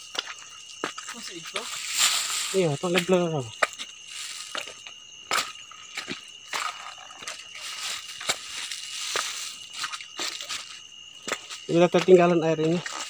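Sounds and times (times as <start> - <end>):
footsteps on stones and dry leaves: 0.0 - 13.0.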